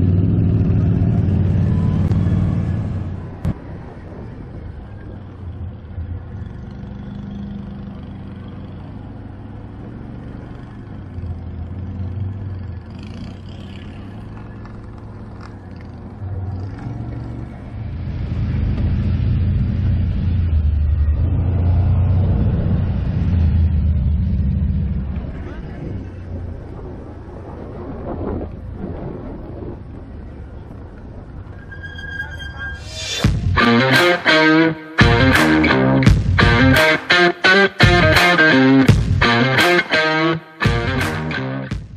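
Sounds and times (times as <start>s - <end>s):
atv engine droning: 0.0s - 41.6s.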